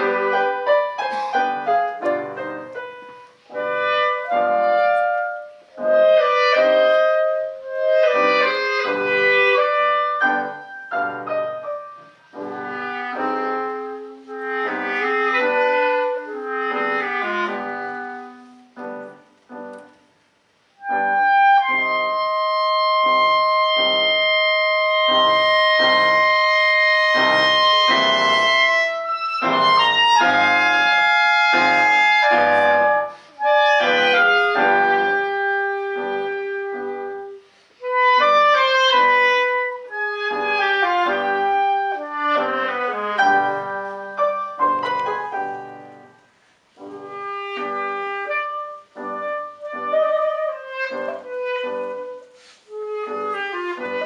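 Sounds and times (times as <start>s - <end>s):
clarinets playing: 0.0s - 19.8s, 20.8s - 54.0s
piano chords: 0.0s - 54.0s.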